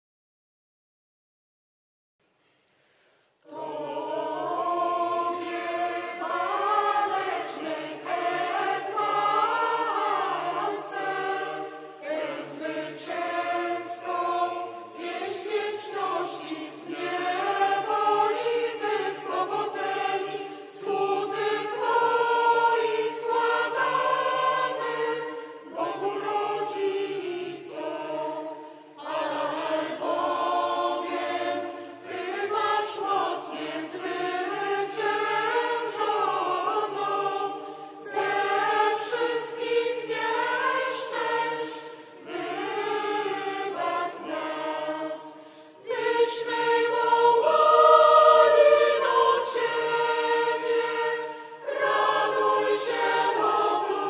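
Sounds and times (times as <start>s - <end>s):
mixed choir chanting unaccompanied: 3.4s - 54.0s.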